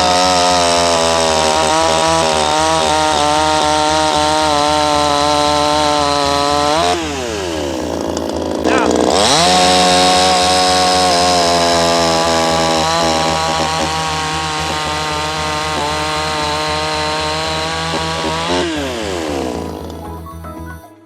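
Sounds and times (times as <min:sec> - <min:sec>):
chainsaw cutting wood: 0:00.0 - 0:20.1.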